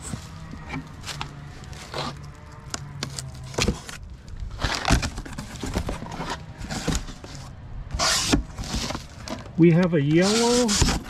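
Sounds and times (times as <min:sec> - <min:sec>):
knife cutting cardboard box: 0:00.0 - 0:02.2, 0:03.0 - 0:09.5, 0:10.1 - 0:11.0
cardboard and tape rustling: 0:00.0 - 0:11.0.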